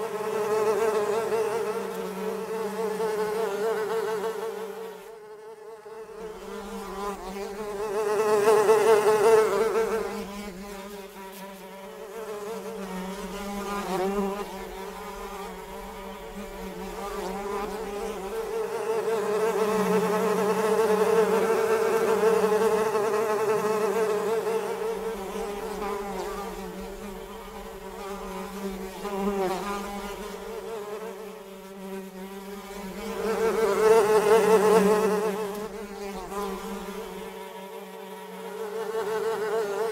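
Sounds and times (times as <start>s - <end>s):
flies buzzing: 0.0s - 39.9s.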